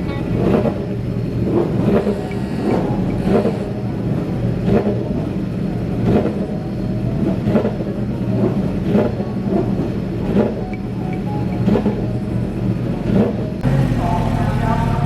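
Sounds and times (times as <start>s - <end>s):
engines droning: 0.0s - 15.0s.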